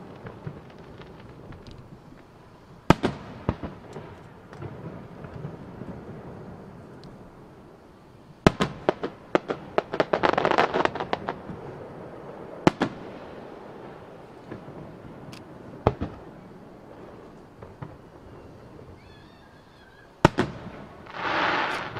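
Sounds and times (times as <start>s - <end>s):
firework bangs and crackling: 0.0s - 19.0s, 20.2s - 21.9s.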